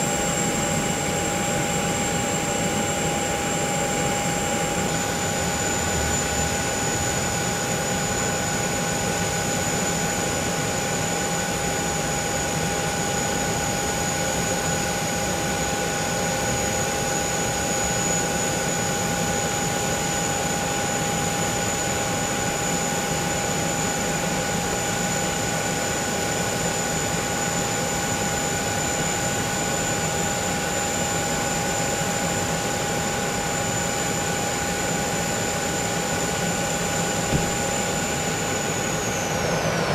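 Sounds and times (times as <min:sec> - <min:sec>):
jet turbines whining: 0:00.0 - 0:16.8, 0:18.0 - 0:39.9.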